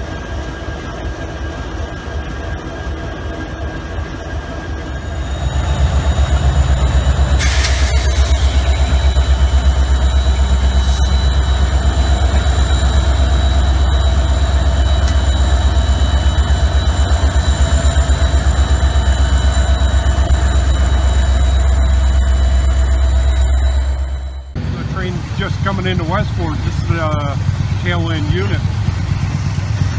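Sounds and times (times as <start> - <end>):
diesel locomotive engines throbbing: 0.0 - 29.9
high whine: 3.4 - 29.9.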